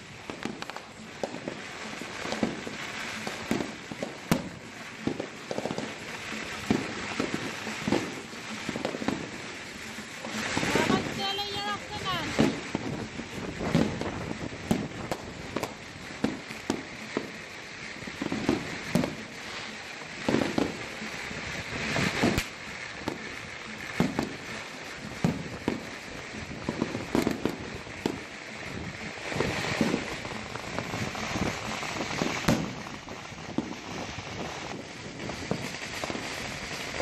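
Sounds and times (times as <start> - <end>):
crackling of bursting fireworks: 0.0 - 37.0
fireworks bangs: 0.0 - 37.0.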